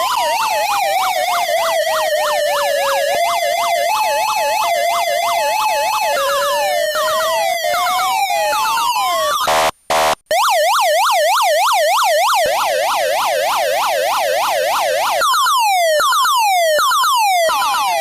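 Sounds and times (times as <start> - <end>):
electronic police siren: 0.0 - 18.0.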